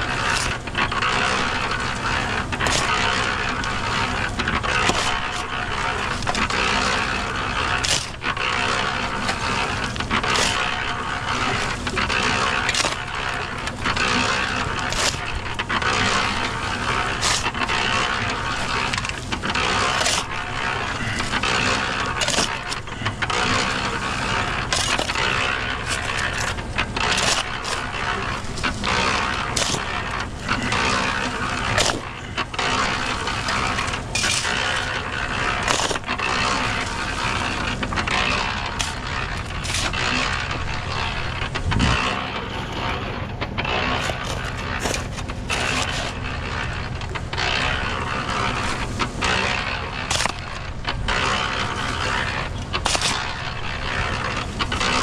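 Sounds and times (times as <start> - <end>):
engine humming: 0.0 - 55.0
scraping and knocking hard material: 0.0 - 55.0.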